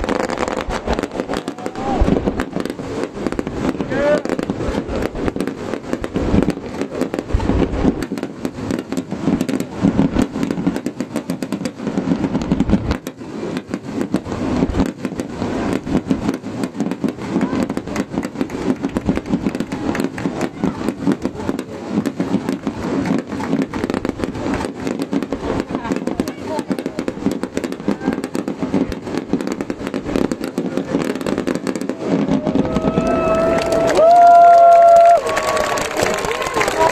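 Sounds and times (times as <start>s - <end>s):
crowd noise: 0.0s - 36.9s
fireworks bursting and crackling: 0.0s - 36.9s.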